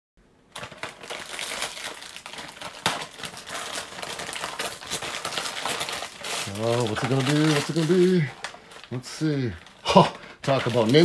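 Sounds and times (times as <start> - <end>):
wrapping paper tearing and crinkling: 0.5 - 11.0.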